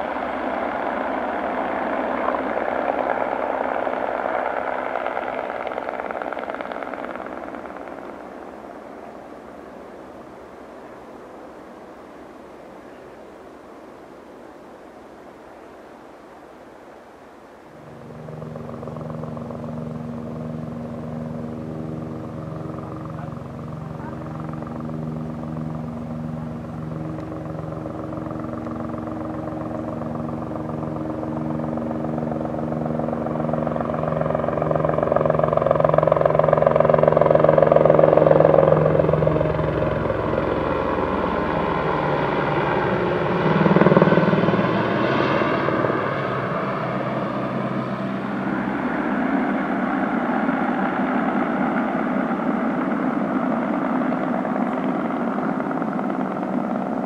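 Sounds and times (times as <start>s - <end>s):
helicopter flying past: 0.0s - 13.5s, 17.5s - 57.0s.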